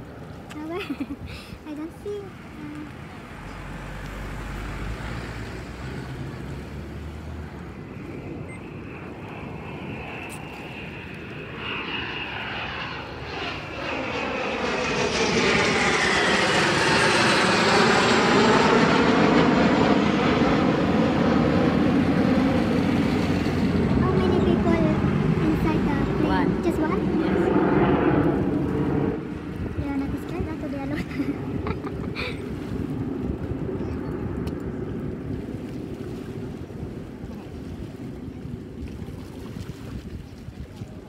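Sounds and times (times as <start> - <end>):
jet flying past: 0.0 - 37.5.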